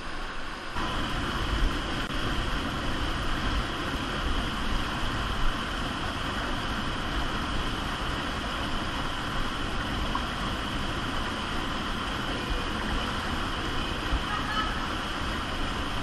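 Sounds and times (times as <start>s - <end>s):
underground stream rushing: 0.0s - 16.0s.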